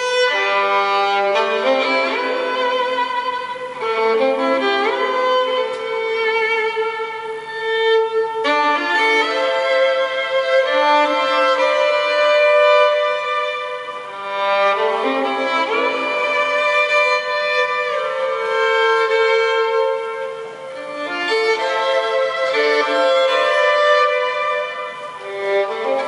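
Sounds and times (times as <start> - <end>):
violin melody: 0.0 - 26.0.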